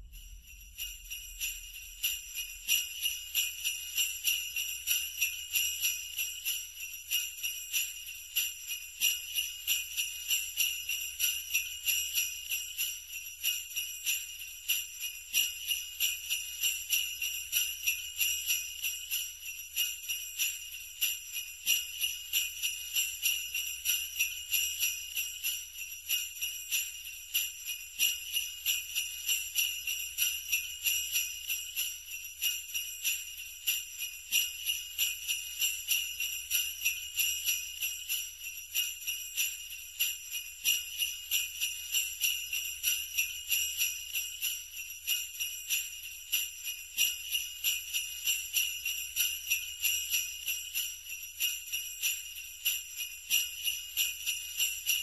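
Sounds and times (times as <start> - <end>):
sleigh bells jingling: 0.0 - 55.0.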